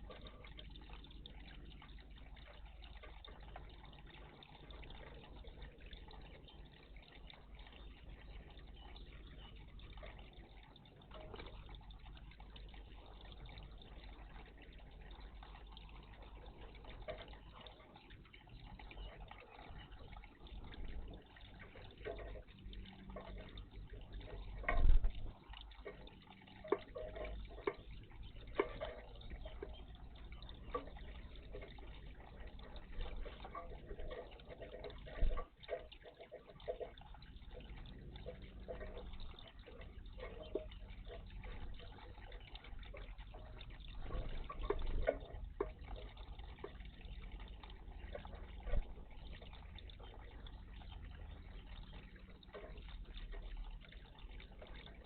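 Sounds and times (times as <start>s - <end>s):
water splashing in bird bath: 0.0s - 55.0s.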